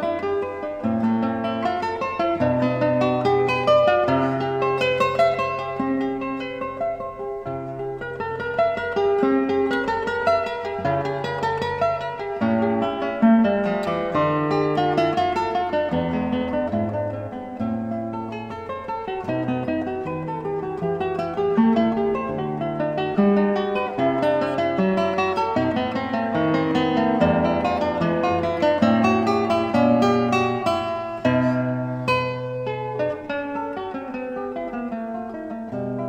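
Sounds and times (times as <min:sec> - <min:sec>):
acoustic guitar music: 0:00.0 - 0:36.0.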